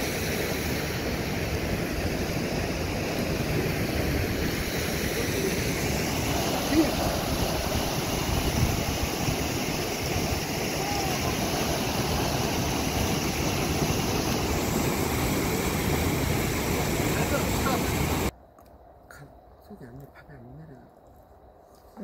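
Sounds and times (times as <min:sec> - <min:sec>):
river rushing: 0:00.0 - 0:18.3.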